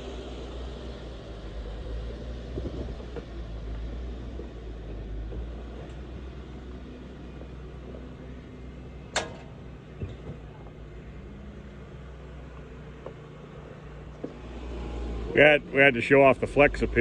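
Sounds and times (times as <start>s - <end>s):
engine running with low rumble: 0.0s - 17.0s.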